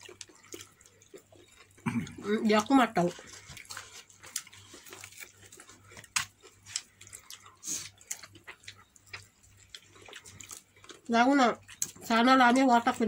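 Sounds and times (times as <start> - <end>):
wet chewing and lip smacks: 0.0 - 12.6.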